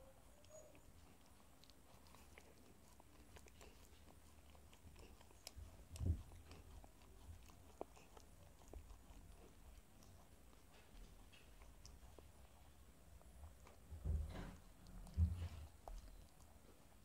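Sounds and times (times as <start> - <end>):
wet licking and mouth clicks: 0.4 - 13.9, 14.6 - 17.0.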